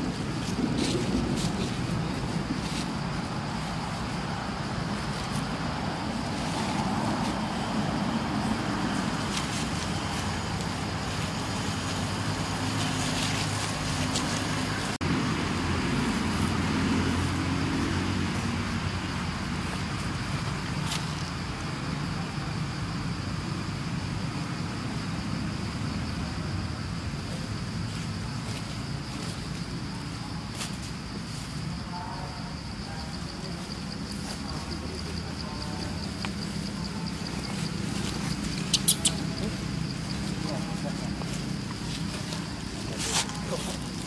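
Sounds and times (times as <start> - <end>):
motor traffic rumble: 0.0 - 44.0.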